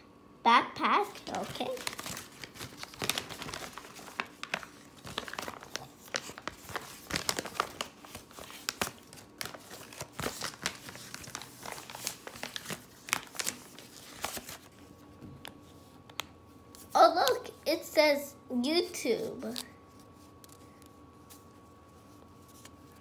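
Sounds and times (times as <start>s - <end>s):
paper and packaging crinkling: 1.0s - 16.2s, 19.4s - 23.0s.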